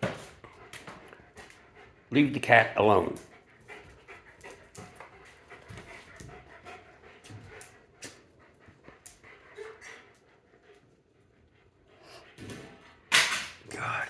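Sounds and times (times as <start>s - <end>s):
dog panting: 0.0s - 13.1s.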